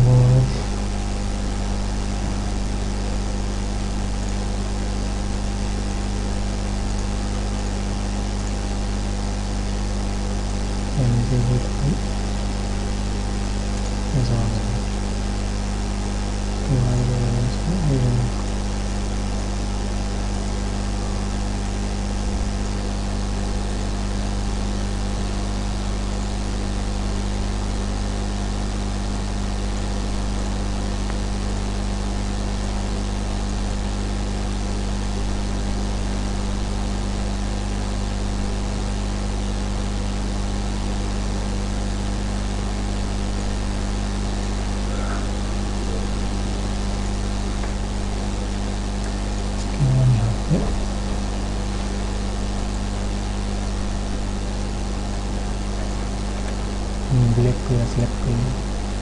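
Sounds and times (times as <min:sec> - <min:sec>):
low electrical hum with hiss: 0:00.0 - 0:59.0.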